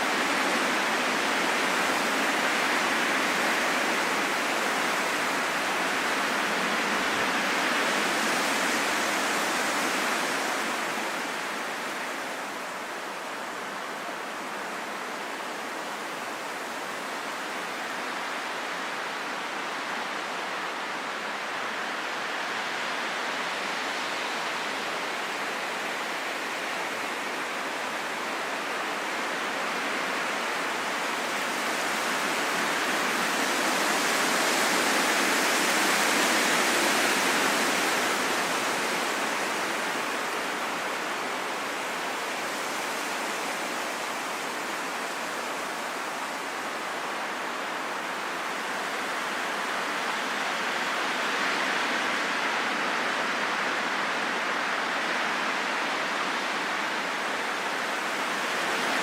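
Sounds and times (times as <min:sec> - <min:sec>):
wind blowing in gusts: 0:00.0 - 0:59.0.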